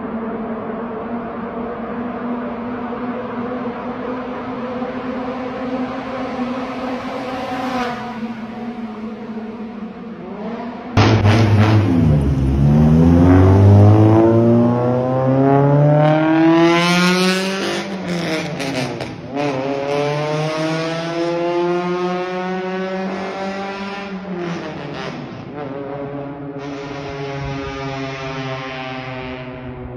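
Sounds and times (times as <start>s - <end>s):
car engine revving: 2.5s - 29.9s.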